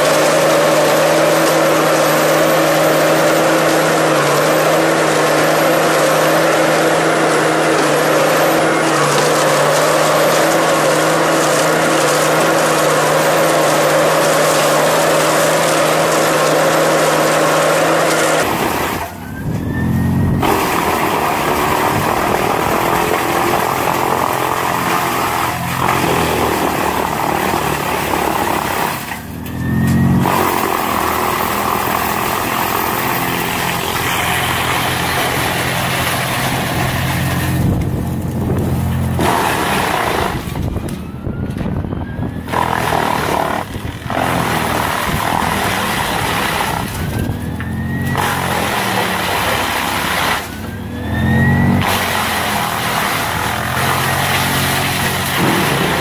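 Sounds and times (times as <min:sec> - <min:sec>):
heavy engine: 0:00.0 - 0:56.0
wood chipper grinding: 0:00.0 - 0:56.0.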